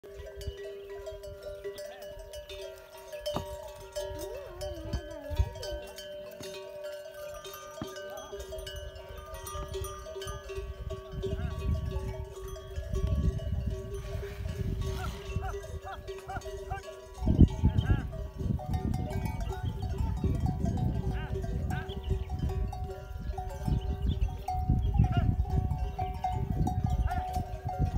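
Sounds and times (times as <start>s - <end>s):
camel bells ringing: 0.0s - 27.9s.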